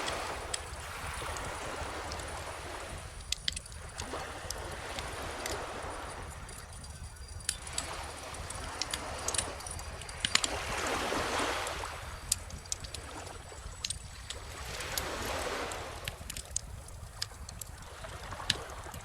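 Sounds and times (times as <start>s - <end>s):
bonfire crackling and popping: 0.0s - 10.9s, 11.6s - 19.0s
ocean waves washing in: 0.0s - 19.0s.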